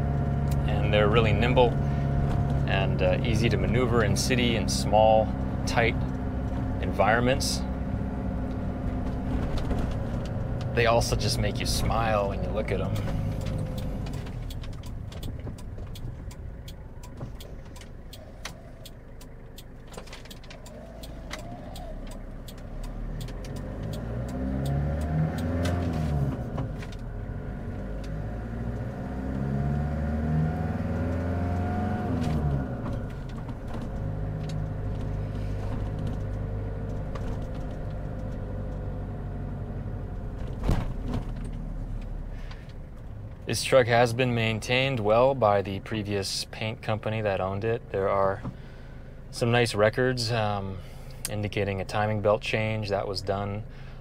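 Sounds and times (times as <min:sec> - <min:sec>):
diesel truck engine: 0:00.0 - 0:54.0.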